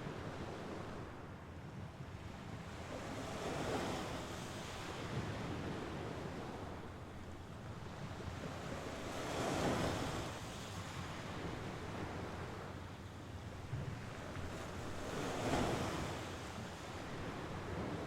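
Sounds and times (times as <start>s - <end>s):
waves washing onto shore: 2.6s - 18.0s.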